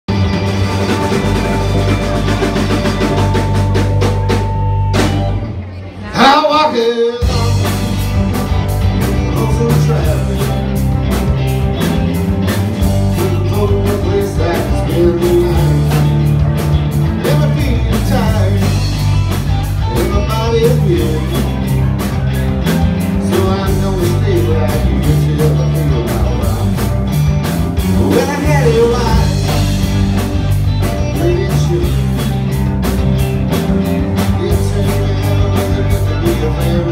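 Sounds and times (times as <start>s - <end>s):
blues-rock band playing live: 0.1s - 36.9s.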